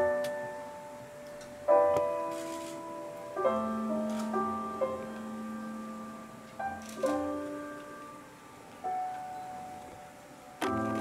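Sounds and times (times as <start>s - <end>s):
piano playing slow chords: 0.0s - 11.0s.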